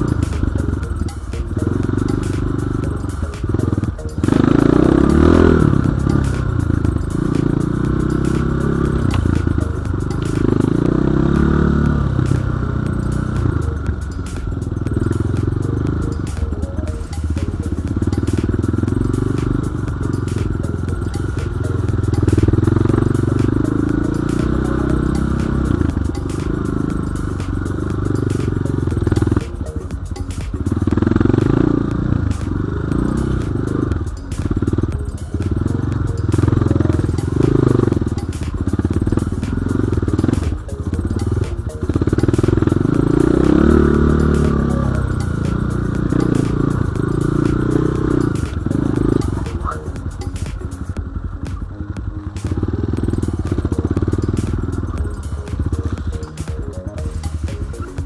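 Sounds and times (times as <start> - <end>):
dirt bike engine revving: 0.0 - 29.7, 30.3 - 50.1.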